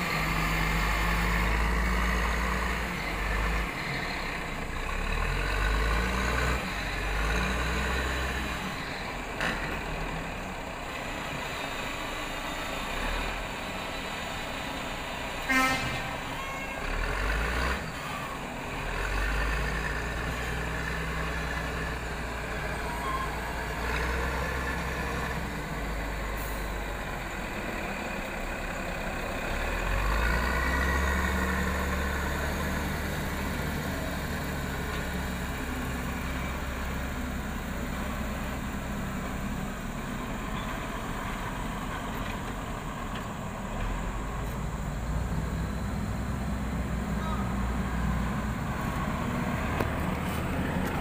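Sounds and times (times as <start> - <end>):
heavy diesel engines rumbling: 0.0 - 51.0.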